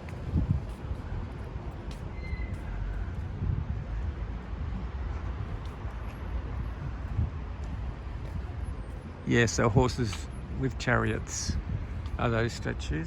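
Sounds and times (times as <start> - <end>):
low city background rumble: 0.0 - 13.0.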